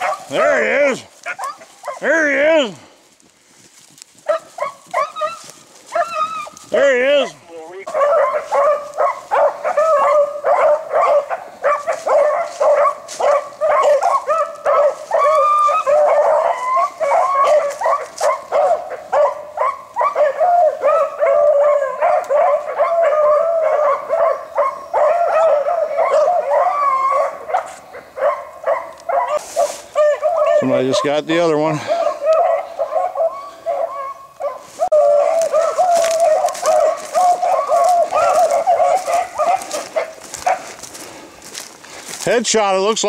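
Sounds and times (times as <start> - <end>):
beagles baying: 0.0 - 2.9, 4.1 - 43.0.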